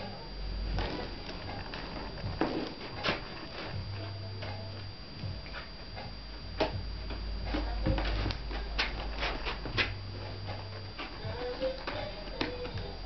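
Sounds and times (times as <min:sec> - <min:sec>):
balance board rolling rumble: 0:00.0 - 0:13.0.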